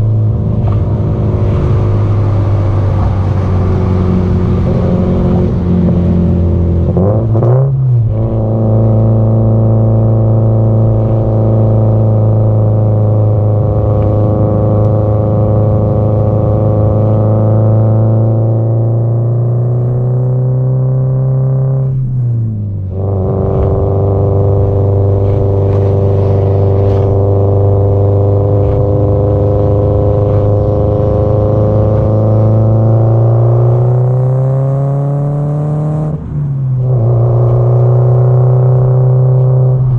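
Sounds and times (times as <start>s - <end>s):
turbocharged car engine at speed: 0.0s - 39.9s.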